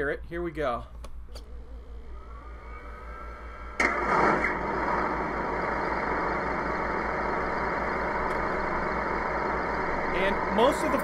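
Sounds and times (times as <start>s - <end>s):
starter whine: 1.3s - 11.0s.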